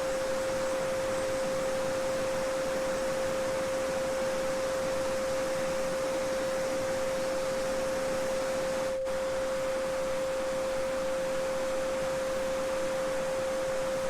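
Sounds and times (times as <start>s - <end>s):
pure sine tone: 0.0s - 14.0s.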